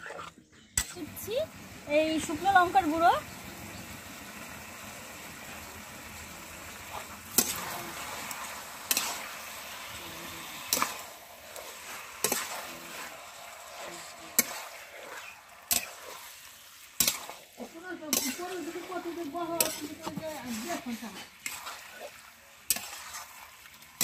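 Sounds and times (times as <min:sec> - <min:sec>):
chicken sizzling in pan: 0:00.8 - 0:24.0.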